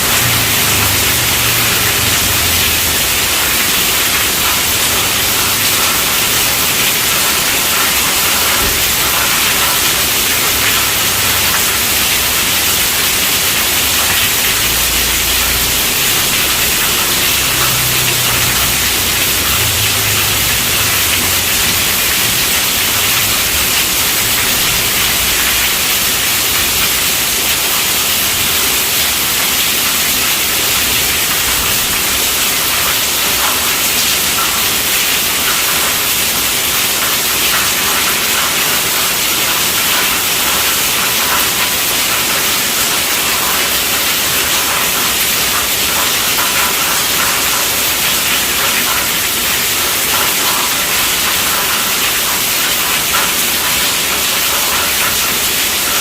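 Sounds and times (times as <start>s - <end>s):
heavy rain on tent roof: 0.0s - 56.0s.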